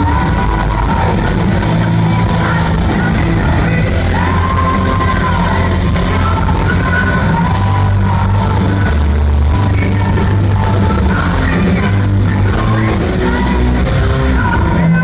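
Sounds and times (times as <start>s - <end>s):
drums: 0.0s - 15.0s
electric guitars: 0.0s - 15.0s
heavy bass: 0.0s - 15.0s
woman singing: 0.0s - 15.0s.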